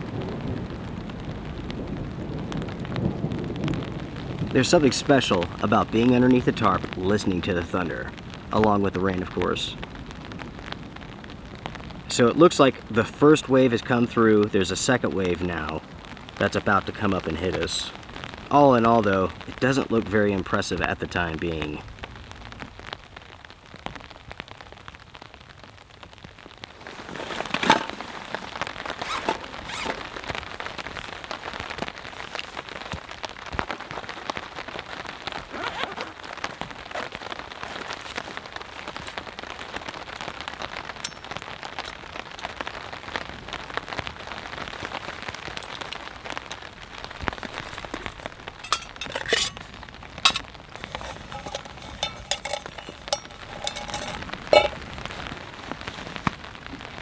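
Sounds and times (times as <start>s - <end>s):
rain pattering on a tarp: 0.0s - 27.3s, 28.0s - 48.7s, 54.2s - 57.0s.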